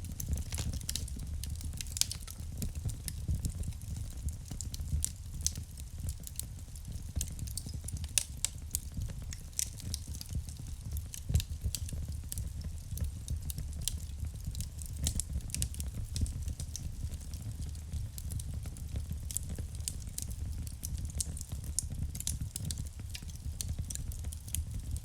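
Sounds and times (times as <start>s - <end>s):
low rumble of burning logs: 0.0s - 25.0s
wood fire crackling: 0.0s - 25.0s.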